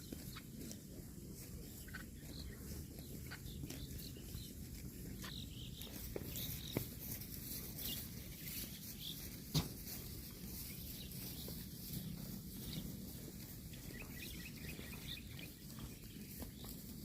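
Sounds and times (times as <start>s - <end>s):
cow tearing grass: 0.0s - 17.0s.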